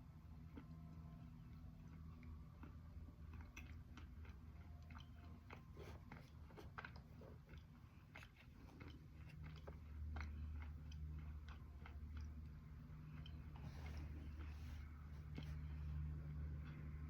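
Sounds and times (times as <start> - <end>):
steady low hum: 0.0 - 17.0
chewing crunches: 0.4 - 15.9.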